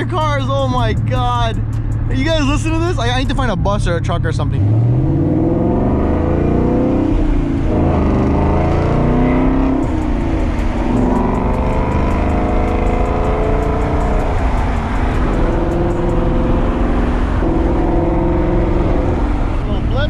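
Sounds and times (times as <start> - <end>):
car engine revving with deep rumble: 0.0 - 20.0.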